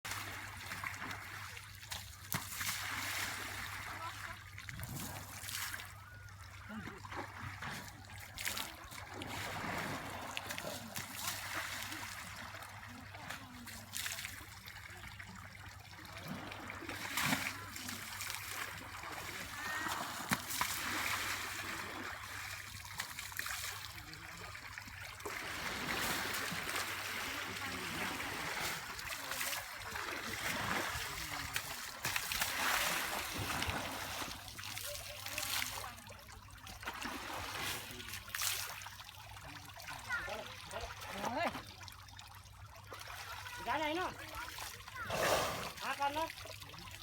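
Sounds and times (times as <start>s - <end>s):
water splashing and trickling: 0.0s - 47.0s.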